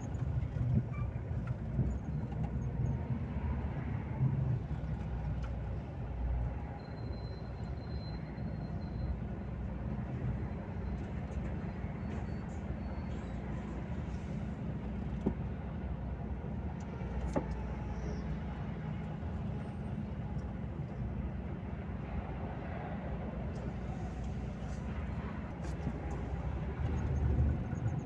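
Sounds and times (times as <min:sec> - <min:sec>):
road rumble: 0:00.0 - 0:28.0
truck diesel engine cruising: 0:00.0 - 0:28.0.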